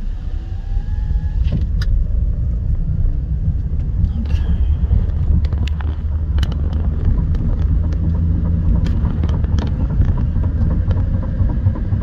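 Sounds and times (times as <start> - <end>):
tyre and wind rumble: 1.1 - 12.0.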